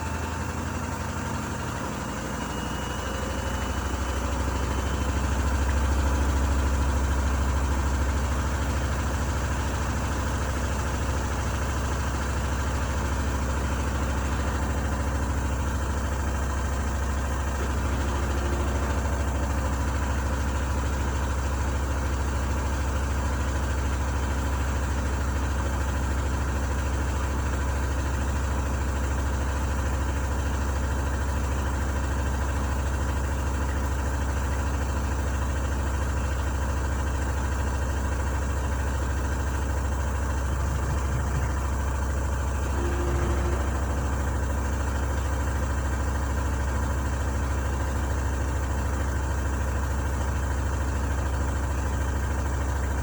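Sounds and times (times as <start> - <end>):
washing machine humming: 1.1 - 53.0.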